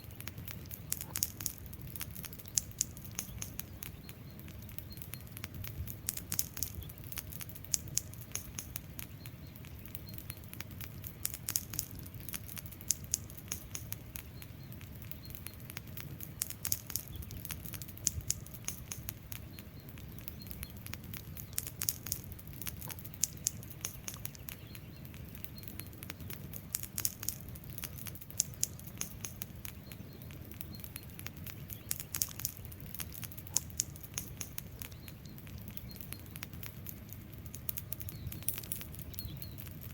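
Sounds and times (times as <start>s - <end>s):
flames rumbling: 0.0s - 39.9s
wood fire crackling and popping: 0.0s - 39.9s.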